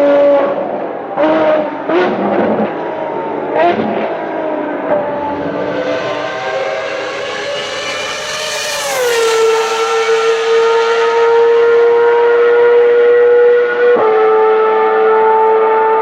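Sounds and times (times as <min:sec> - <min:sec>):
high-revving racing car engine: 0:00.0 - 0:16.0.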